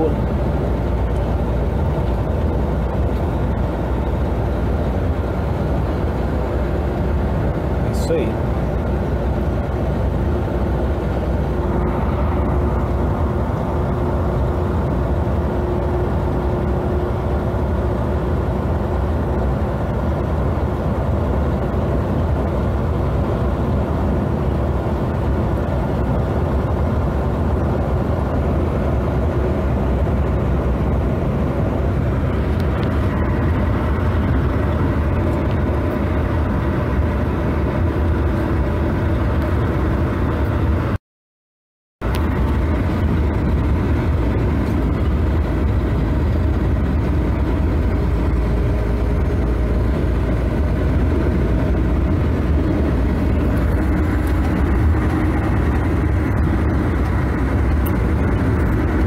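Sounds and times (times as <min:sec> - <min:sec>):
vehicle engine and road noise: 0:00.0 - 0:41.0, 0:42.0 - 0:59.0.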